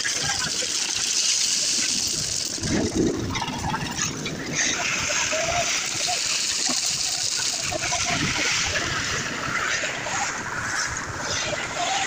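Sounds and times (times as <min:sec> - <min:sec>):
wet concrete sliding and splashing: 0:00.0 - 0:12.0.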